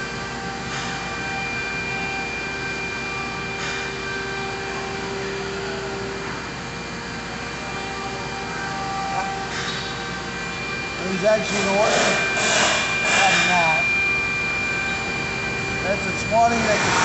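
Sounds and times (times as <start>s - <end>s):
machine hum with whining tones: 0.0s - 17.0s.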